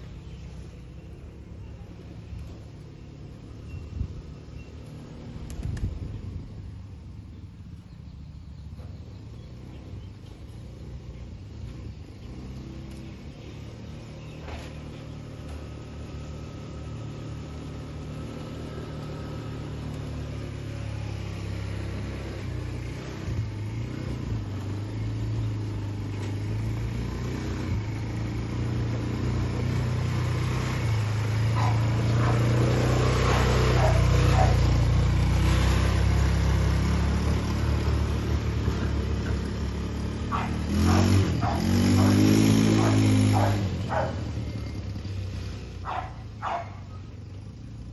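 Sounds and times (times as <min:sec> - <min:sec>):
quad engine running: 0:00.0 - 0:47.9.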